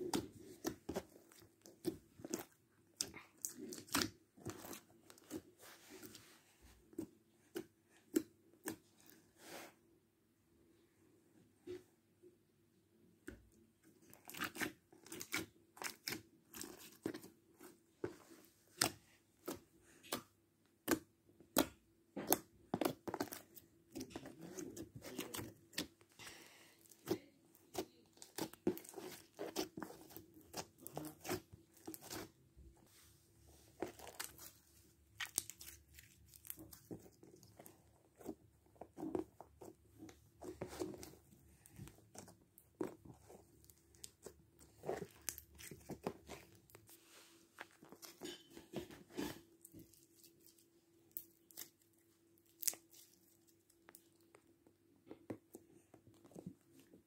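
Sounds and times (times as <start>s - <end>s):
slime being kneaded by hand: 0.0s - 9.7s, 13.3s - 57.0s.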